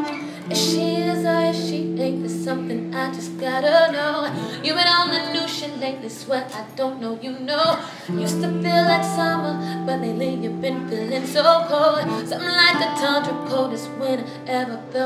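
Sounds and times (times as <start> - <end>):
acoustic guitar chords: 0.0 - 6.9, 7.5 - 15.0
woman singing: 0.0 - 15.0.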